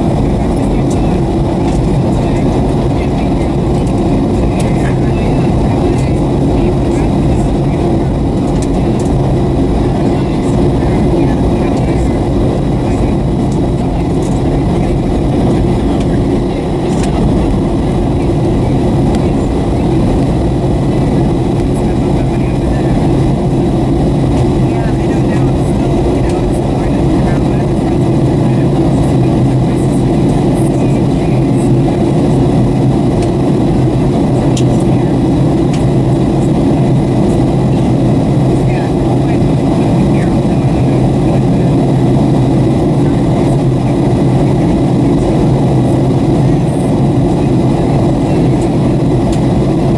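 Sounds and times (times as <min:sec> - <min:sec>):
faint high whine: 0:00.0 - 0:49.9
jet engines droning: 0:00.0 - 0:49.9
rushing airflow: 0:00.0 - 0:49.9.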